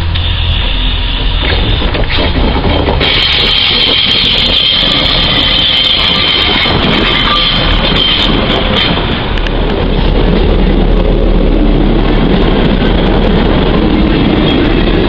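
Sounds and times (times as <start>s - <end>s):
diesel train rumbling past: 0.0s - 15.0s.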